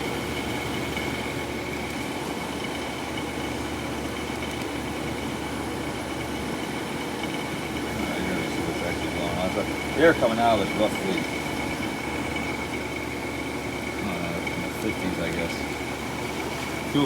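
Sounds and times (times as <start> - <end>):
window air conditioner humming: 0.0 - 17.0.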